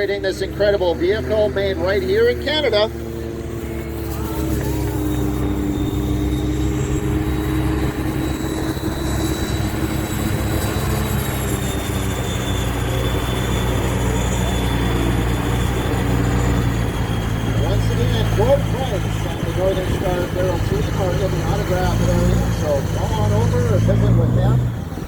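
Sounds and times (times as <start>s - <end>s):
engine and propeller drone: 0.0s - 25.0s
high whine: 0.0s - 25.0s.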